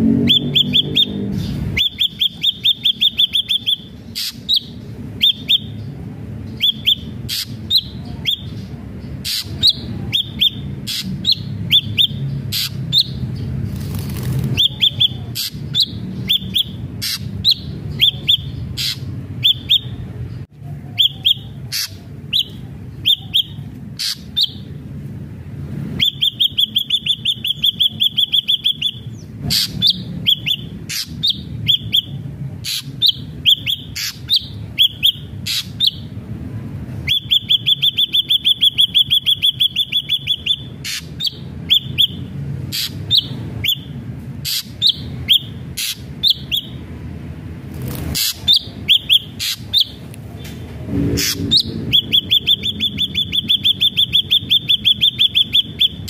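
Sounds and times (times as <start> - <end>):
bird whistling and trilling: 0.2 - 5.8, 6.5 - 8.5, 9.2 - 13.2, 14.5 - 20.0, 20.9 - 24.6, 26.0 - 36.1, 37.0 - 46.8, 48.2 - 50.0, 51.2 - 56.0.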